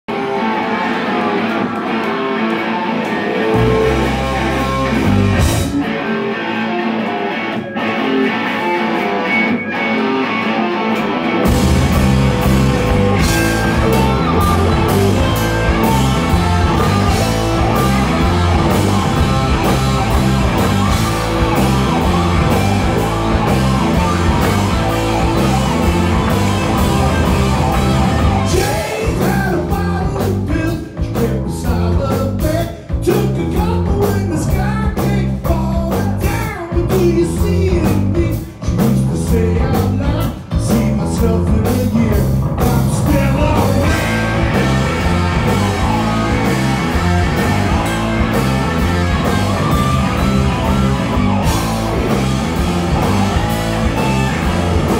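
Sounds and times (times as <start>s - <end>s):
electric guitar: 0.1s - 54.9s
live rock band: 0.1s - 54.9s
bass and drums: 3.1s - 6.3s, 10.6s - 54.9s.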